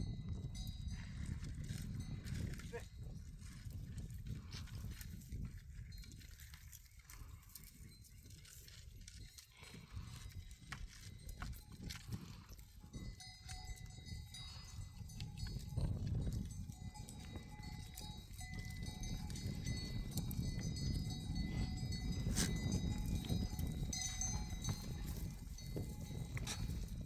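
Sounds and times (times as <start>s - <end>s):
livestock bells clinking: 0.0s - 5.0s, 5.6s - 27.0s.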